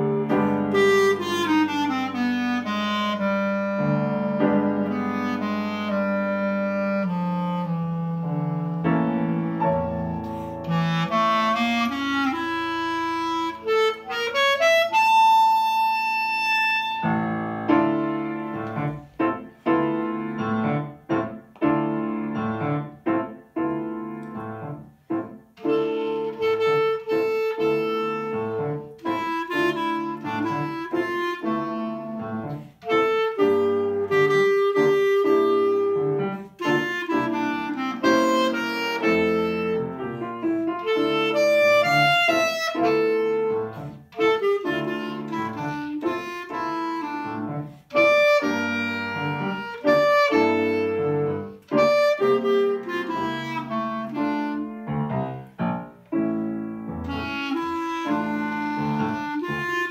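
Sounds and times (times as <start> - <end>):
clarinet playing slow melody: 0.0 - 59.9
piano accompaniment: 0.0 - 59.9.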